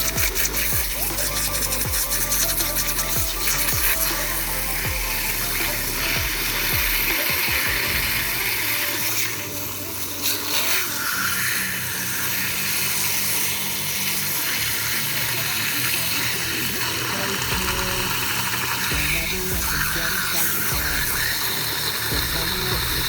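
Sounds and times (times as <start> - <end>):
water spraying: 0.0 - 23.0.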